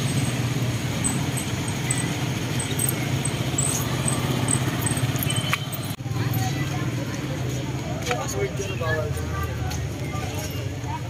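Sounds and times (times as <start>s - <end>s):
motorcycle engine hum: 0.0s - 11.0s
road noise: 0.0s - 11.0s.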